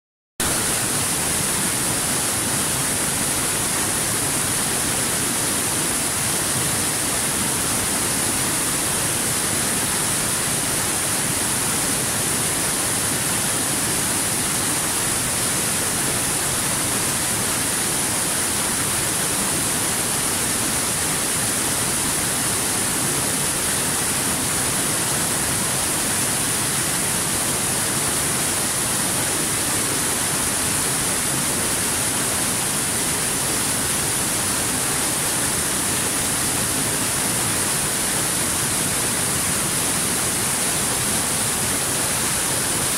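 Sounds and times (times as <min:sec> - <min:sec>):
waterfall rushing over boulders: 0:00.4 - 0:42.9.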